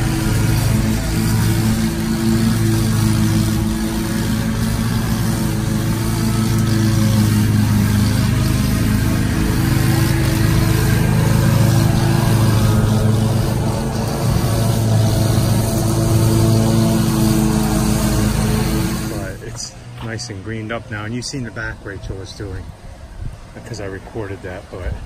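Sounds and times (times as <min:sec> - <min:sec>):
mower engine droning: 0:00.0 - 0:25.0.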